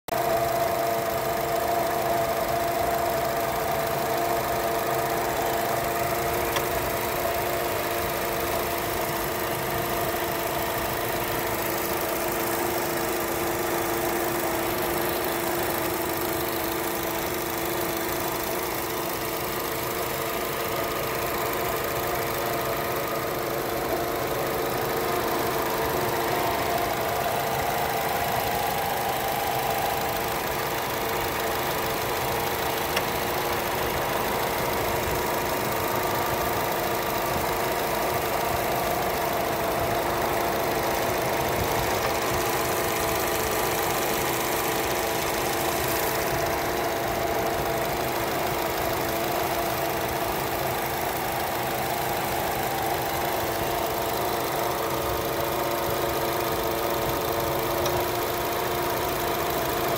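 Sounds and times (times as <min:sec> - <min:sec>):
car engine idling: 0:00.0 - 0:59.9
steady engine hum: 0:00.0 - 0:59.9.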